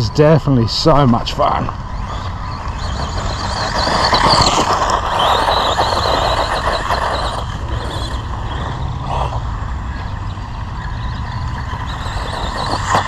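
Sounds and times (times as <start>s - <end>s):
rc car motor whine: 0.0s - 13.0s.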